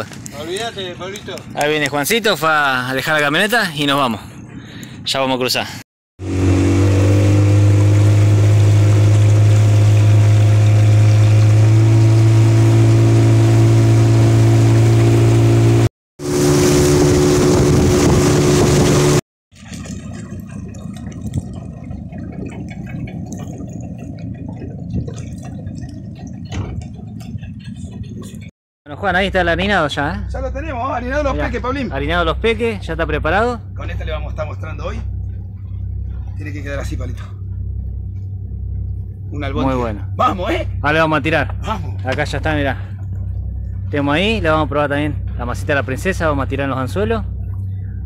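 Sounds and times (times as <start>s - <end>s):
outboard motor running: 6.2s - 48.0s.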